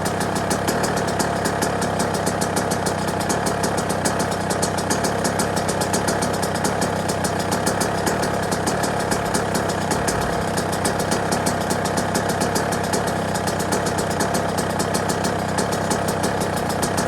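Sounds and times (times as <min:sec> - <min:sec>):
two-stroke engine idling: 0:00.0 - 0:17.0.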